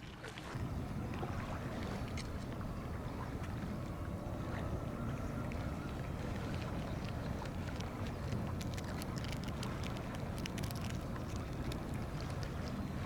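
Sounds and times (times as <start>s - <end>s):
boat engine rumbling: 0.6s - 13.0s
faint steady whine: 0.6s - 13.0s.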